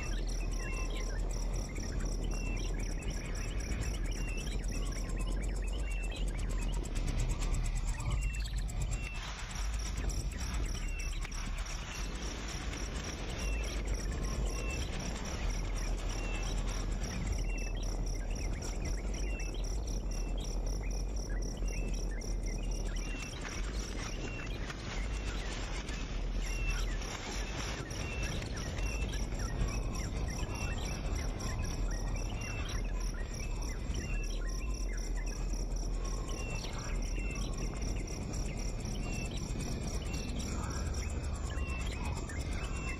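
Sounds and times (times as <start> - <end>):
bird chirps: 0.0 - 42.9
insect trill: 0.0 - 42.9
low rumble: 0.0 - 42.9.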